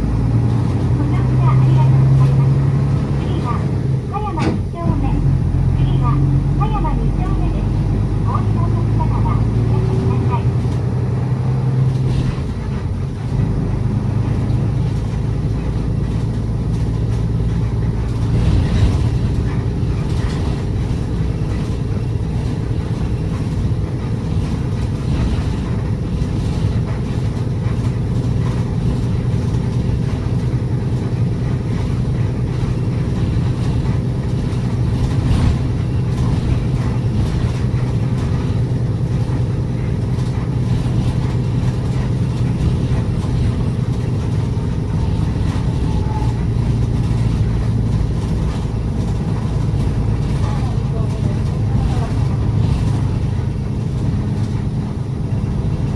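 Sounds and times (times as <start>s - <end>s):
bus body knocks and rattles: 0.0s - 55.9s
bus engine drone: 0.0s - 55.9s.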